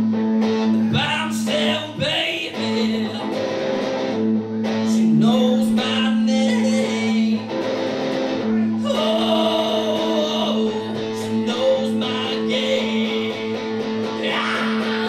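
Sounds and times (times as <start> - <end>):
man singing: 0.7 - 3.8, 4.8 - 7.6, 8.4 - 15.0.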